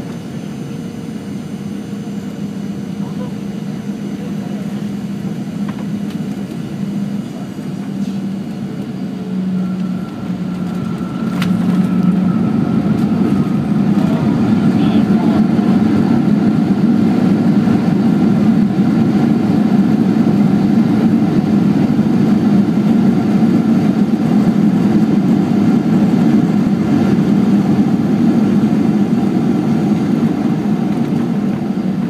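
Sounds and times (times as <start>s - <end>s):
jet engines droning: 0.0s - 32.0s.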